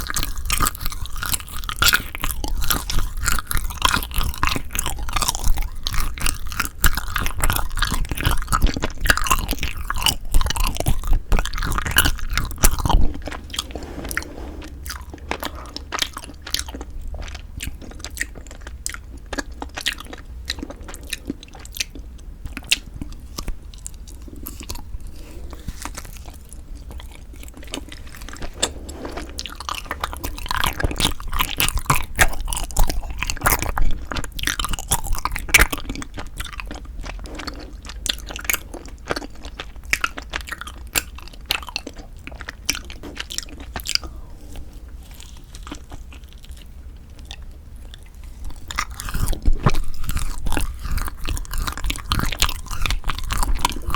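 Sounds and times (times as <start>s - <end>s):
chewing and biting ice cream: 0.0s - 53.9s.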